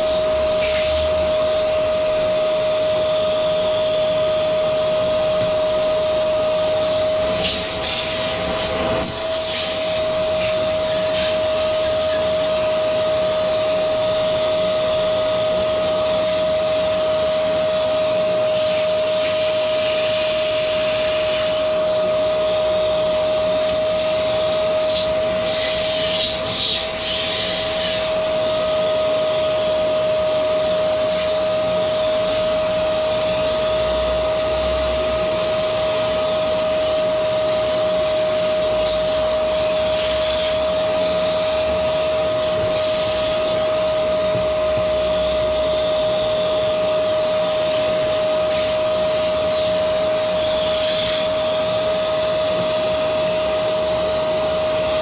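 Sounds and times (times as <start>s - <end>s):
electric blower running: 0.0s - 55.0s.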